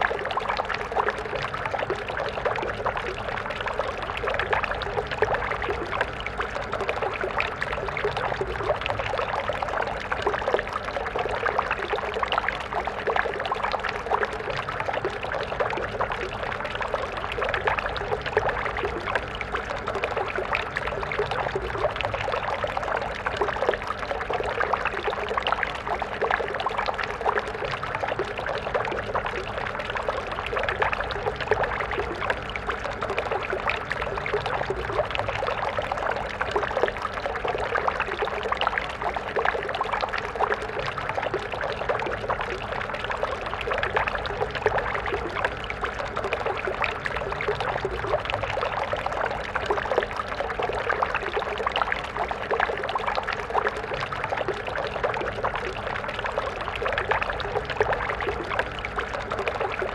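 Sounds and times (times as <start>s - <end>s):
small stream flowing: 0.0s - 59.9s.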